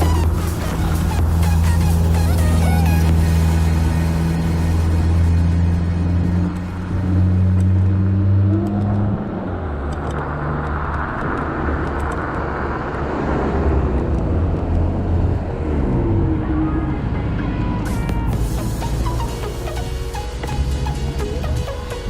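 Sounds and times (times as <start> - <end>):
vehicle engine humming: 0.0 - 22.0
vehicles passing: 0.0 - 22.0.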